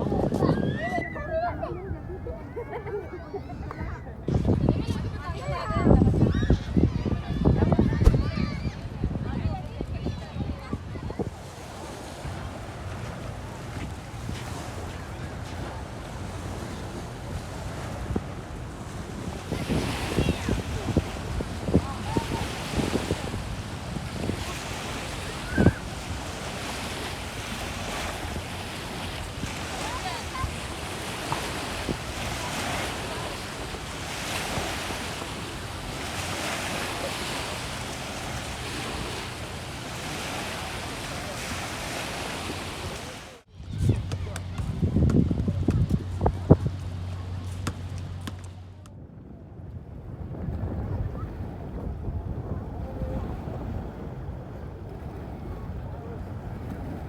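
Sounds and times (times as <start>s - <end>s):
sea waves: 0.0s - 48.9s, 50.0s - 57.0s
wind buffeting microphone: 0.0s - 57.0s.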